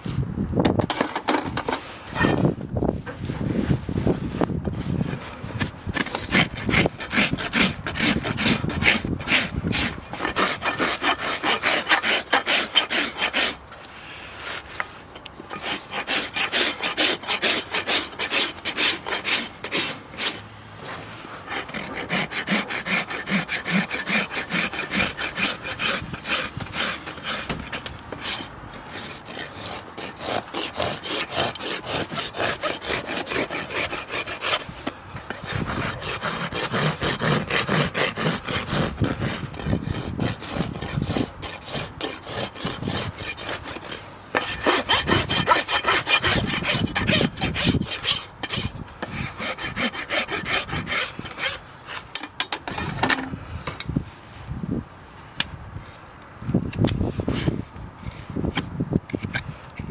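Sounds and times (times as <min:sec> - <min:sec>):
rasp filing a hoof: 0:00.9 - 0:53.9.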